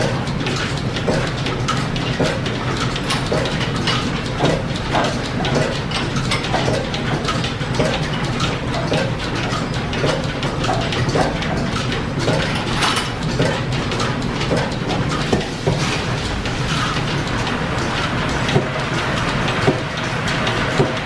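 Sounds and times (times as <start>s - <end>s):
regular machinery knocking: 0.0s - 21.0s.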